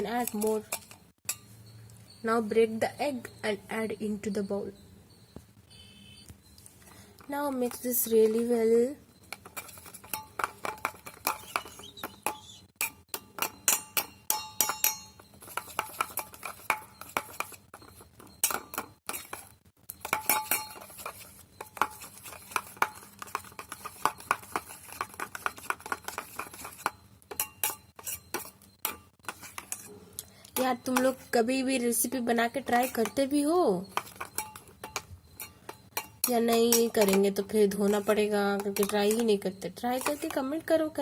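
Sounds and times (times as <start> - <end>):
utensil clinking against bowl: 0.0 - 1.6, 7.2 - 31.4, 32.5 - 41.0.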